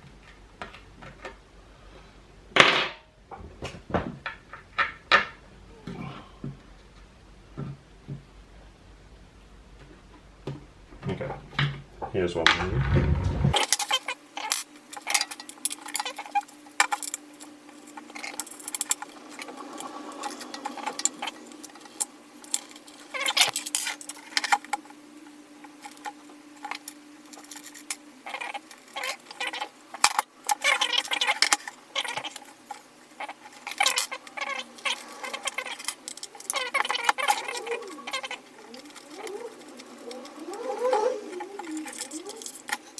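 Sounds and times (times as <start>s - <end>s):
steady low hum: 5.4s - 42.9s.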